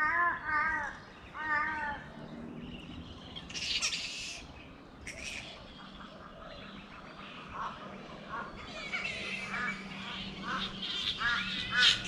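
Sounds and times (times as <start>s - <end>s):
crow-like calls: 0.0s - 2.2s, 3.5s - 12.0s.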